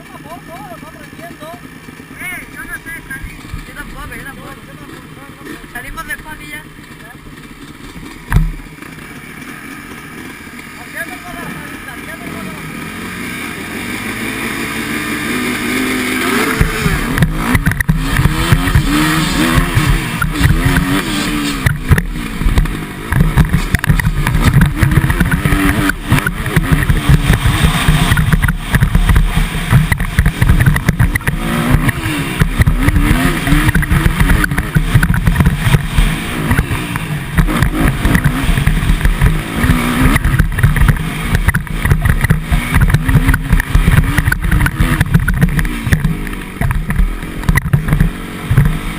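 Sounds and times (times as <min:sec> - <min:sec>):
motocross motorcycle engine revving: 0:00.0 - 0:48.9.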